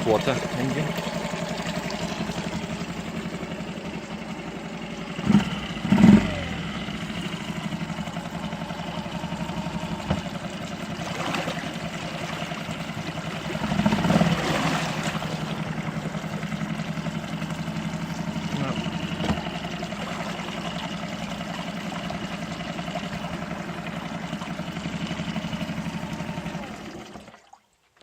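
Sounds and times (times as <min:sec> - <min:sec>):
outboard motor idling: 0:00.0 - 0:28.0.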